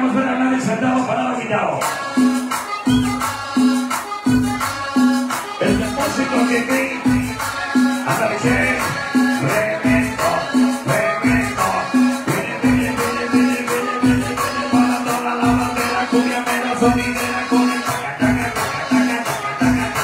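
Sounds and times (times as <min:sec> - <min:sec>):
loud dance music: 0:00.0 - 0:20.0.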